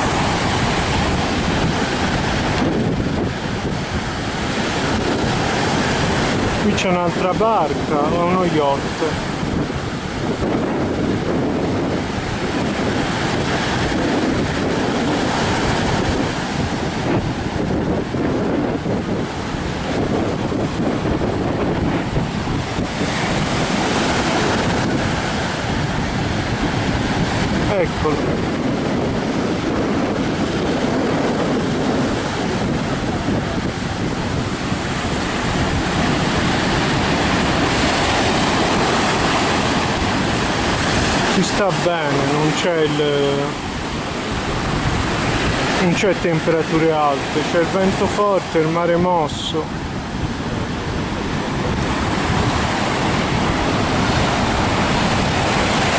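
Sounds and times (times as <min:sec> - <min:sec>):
surf breaking on beach: 0:00.0 - 0:55.9
wind buffeting microphone: 0:00.0 - 0:55.9.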